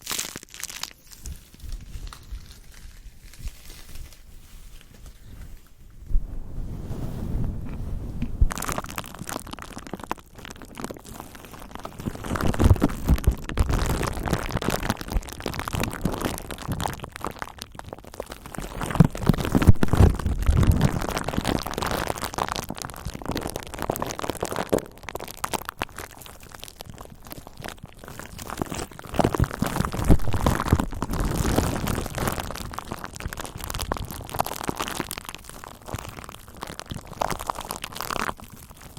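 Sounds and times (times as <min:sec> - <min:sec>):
bubble wrap crackling: 0:00.0 - 0:38.9
deep rumbling: 0:05.8 - 0:18.1, 0:18.7 - 0:38.1.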